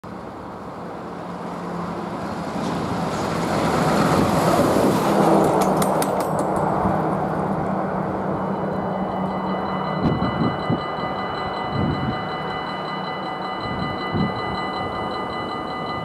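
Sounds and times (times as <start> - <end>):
heavy truck driving past: 0.1 - 16.0.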